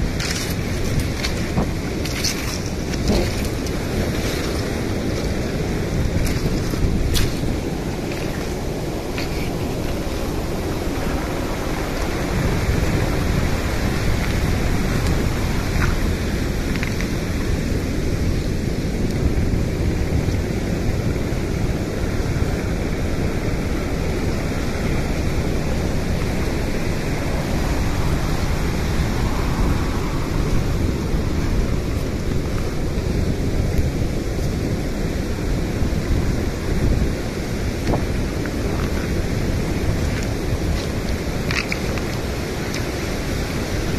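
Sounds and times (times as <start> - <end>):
surf washing over pebbles: 0.0 - 43.9.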